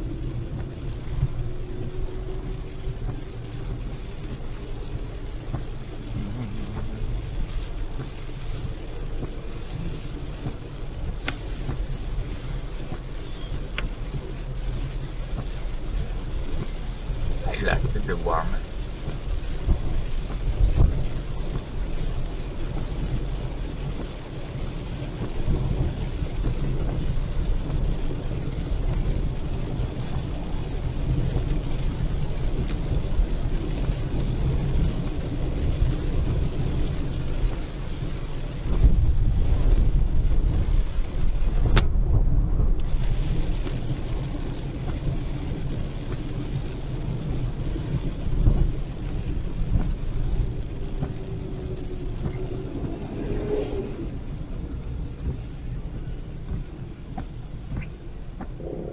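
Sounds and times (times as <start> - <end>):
rain and spray hiss: 0.0 - 58.9
road and engine rumble: 0.0 - 58.9.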